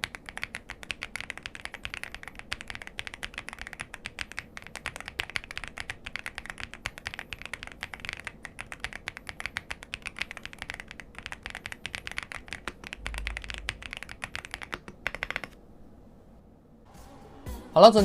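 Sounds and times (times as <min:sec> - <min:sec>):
mechanical keyboard typing: 0:00.0 - 0:15.6.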